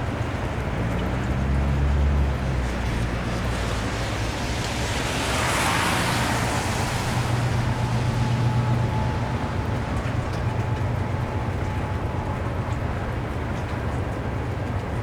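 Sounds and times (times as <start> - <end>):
low rumble of engine and traffic: 0.0 - 15.0
tyres hissing on wet pavement: 0.2 - 14.0.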